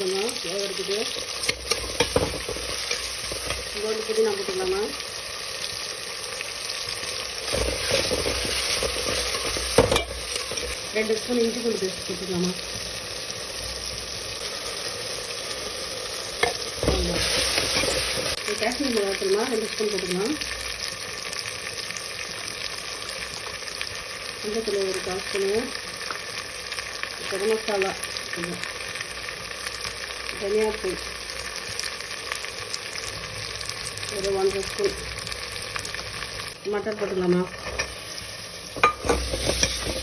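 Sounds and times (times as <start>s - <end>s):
masala sizzling in hot oil: 0.0s - 40.0s.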